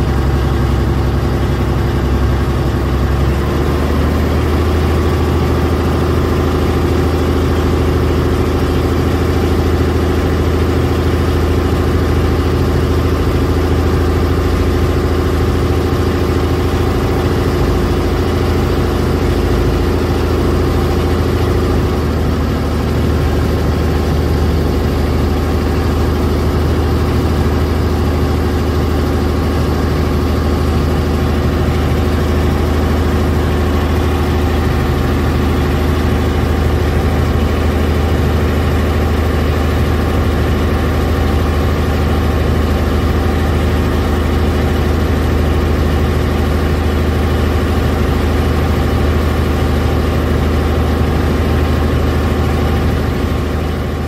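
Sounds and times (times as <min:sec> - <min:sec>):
boat engine throbbing: 0:00.0 - 0:54.0.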